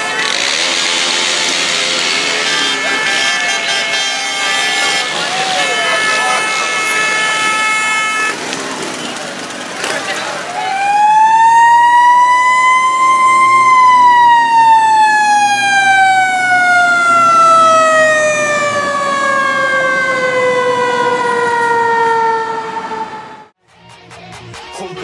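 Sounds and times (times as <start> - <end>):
fire truck siren wailing: 0.0 - 23.6.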